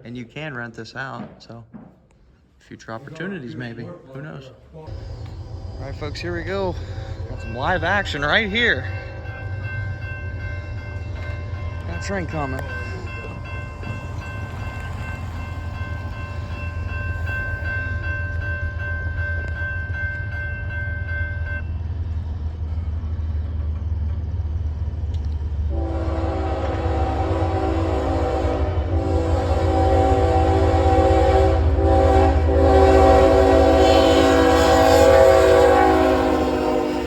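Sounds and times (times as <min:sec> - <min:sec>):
freight locomotive rumble: 0:04.8 - 0:37.0.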